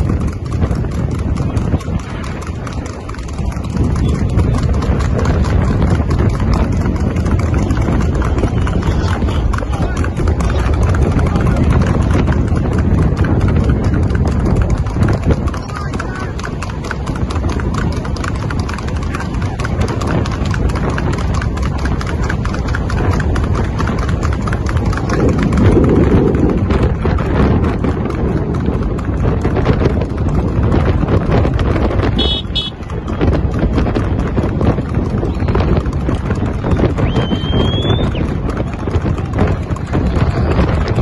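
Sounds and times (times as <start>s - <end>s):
car road noise: 0.0s - 41.0s
horse hooves clattering on tarmac: 0.0s - 41.0s.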